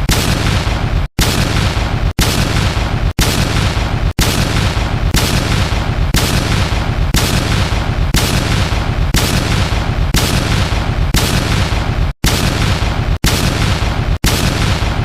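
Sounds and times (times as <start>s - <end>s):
loud boom-like hits: 0.0s - 15.0s.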